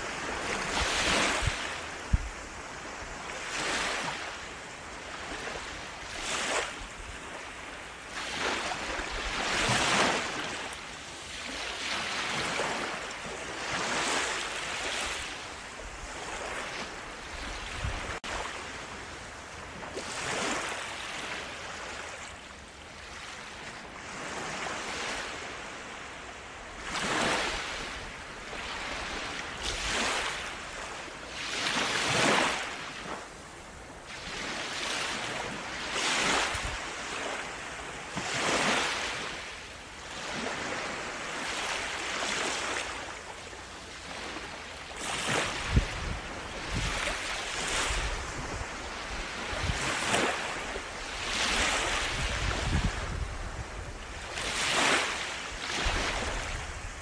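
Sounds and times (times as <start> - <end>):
small waves breaking on sand: 0.0 - 57.0.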